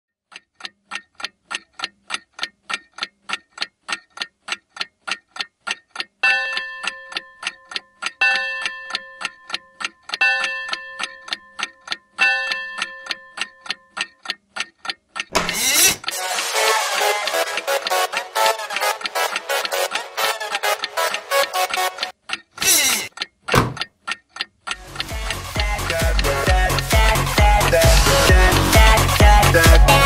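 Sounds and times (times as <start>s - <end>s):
clock ticking: 0.2s - 30.0s.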